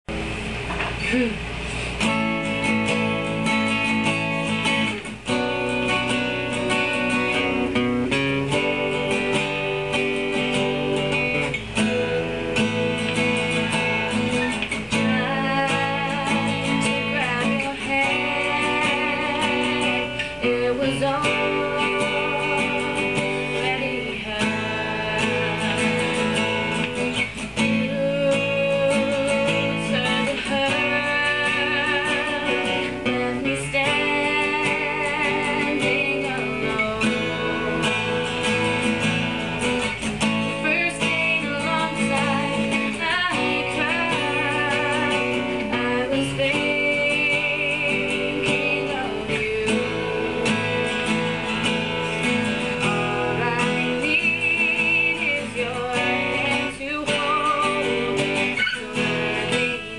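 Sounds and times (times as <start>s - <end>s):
acoustic guitar chords: 0.0s - 59.9s
woman singing: 2.0s - 59.9s.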